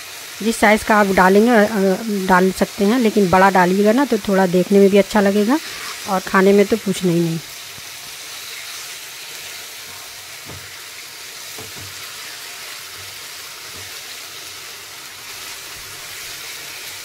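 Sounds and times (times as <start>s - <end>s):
meat frying in oil sizzling: 0.0s - 17.0s.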